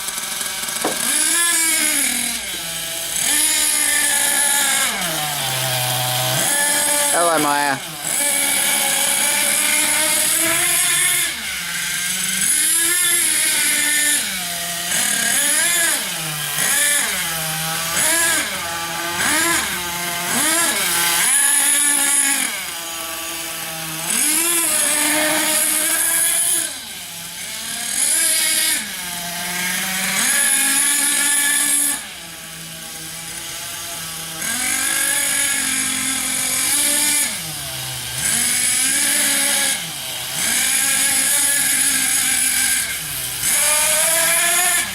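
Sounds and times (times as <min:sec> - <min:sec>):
small nitro engine buzzing: 0:00.0 - 0:44.9.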